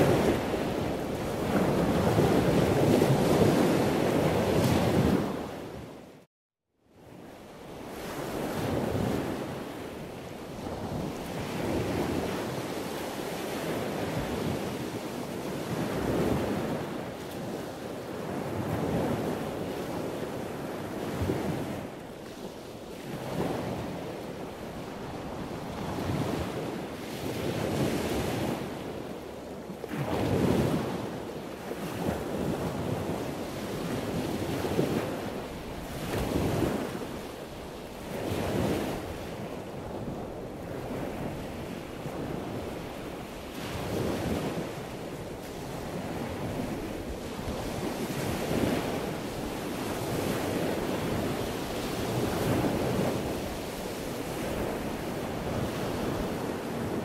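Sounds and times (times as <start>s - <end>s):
wind buffeting microphone: 0.0s - 6.1s, 7.2s - 57.0s.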